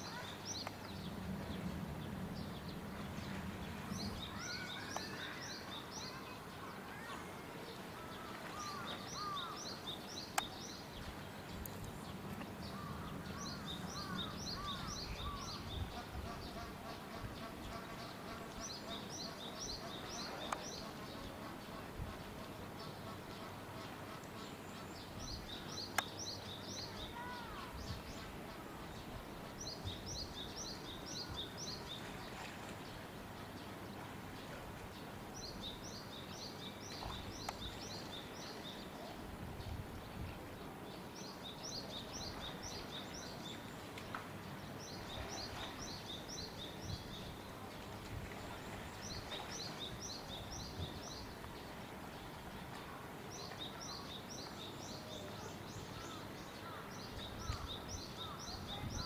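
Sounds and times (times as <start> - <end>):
outdoor background noise: 0.0 - 59.0
songbird singing: 8.0 - 21.8, 24.2 - 32.5, 33.4 - 59.0.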